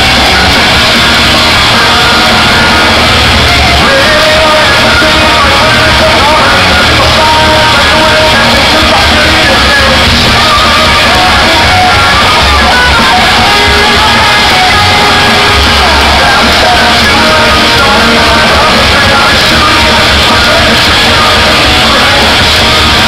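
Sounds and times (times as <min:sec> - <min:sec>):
bass guitar: 0:00.0 - 0:23.0
drums: 0:00.0 - 0:23.0
electric guitars: 0:00.0 - 0:23.0
person shouting singing: 0:00.0 - 0:23.0.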